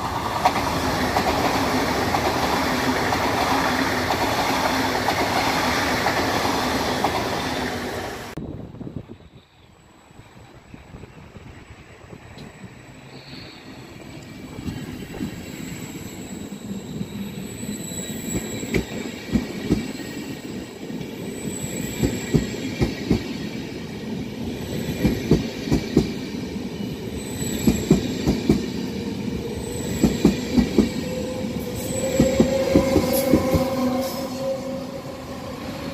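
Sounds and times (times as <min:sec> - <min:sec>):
electric locomotive whine: 0:00.0 - 0:35.9.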